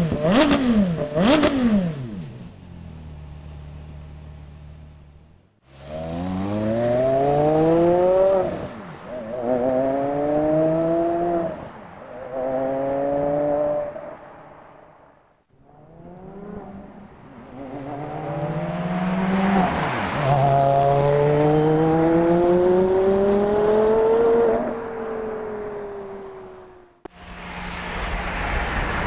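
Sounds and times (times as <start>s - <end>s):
car engine accelerating: 0.0s - 11.7s, 15.6s - 29.0s.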